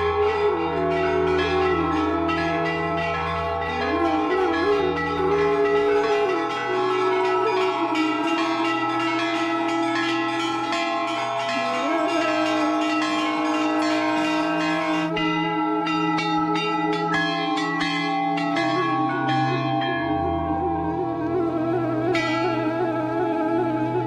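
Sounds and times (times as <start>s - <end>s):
brass bells ringing: 0.0s - 22.7s
low wavering held tone: 0.0s - 24.0s.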